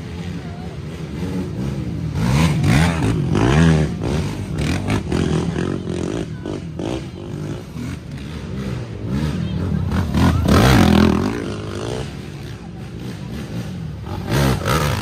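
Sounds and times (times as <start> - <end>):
atv engines revving: 0.0 - 15.0.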